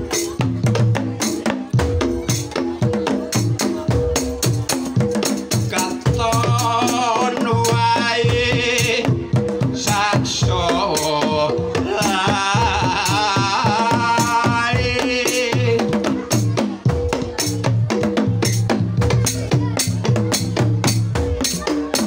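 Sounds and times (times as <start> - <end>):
gamelan ensemble playing: 0.0 - 22.0
hand drums: 0.0 - 22.0.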